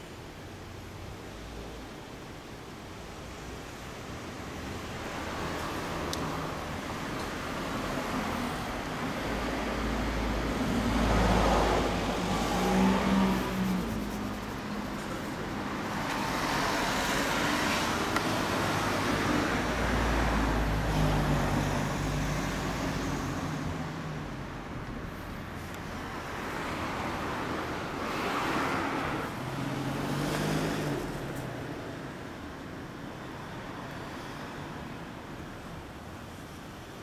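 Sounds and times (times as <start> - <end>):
vehicle engines passing: 3.6 - 37.0.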